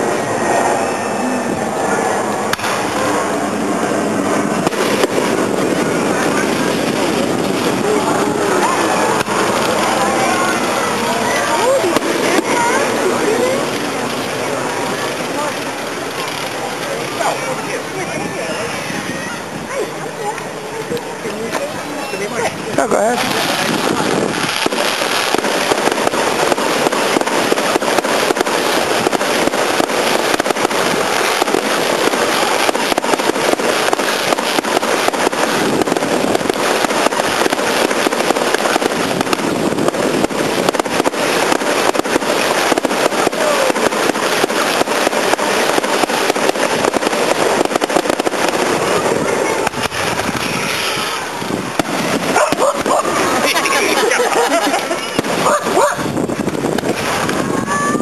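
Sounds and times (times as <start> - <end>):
fireworks crackling: 0.0 - 58.0
steady hiss: 0.0 - 58.0.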